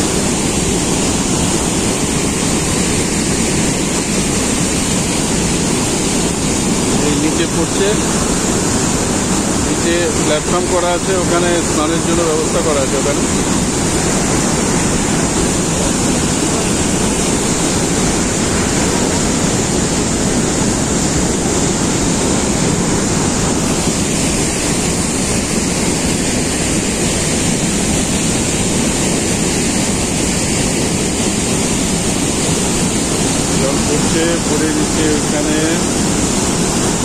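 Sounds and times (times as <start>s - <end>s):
waterfall rushing onto rocks: 0.0s - 37.0s.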